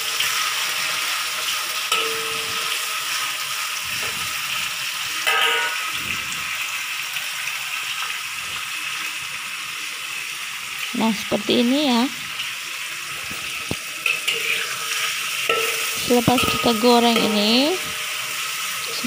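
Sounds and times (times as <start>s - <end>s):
shallots sizzling in oil: 0.0s - 19.0s.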